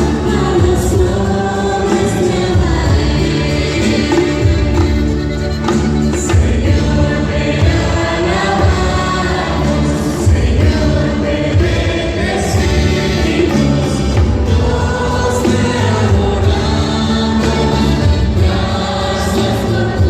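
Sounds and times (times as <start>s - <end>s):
choir singing: 0.0s - 20.0s
instrumental backing: 0.0s - 20.0s.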